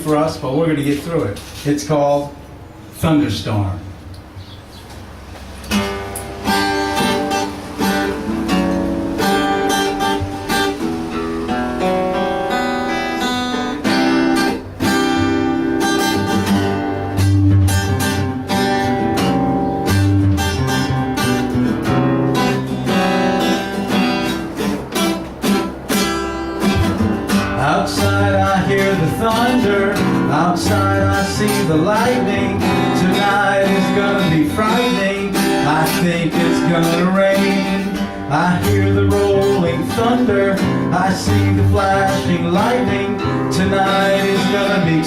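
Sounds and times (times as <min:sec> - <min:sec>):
guitars strumming chords: 0:00.0 - 0:45.0.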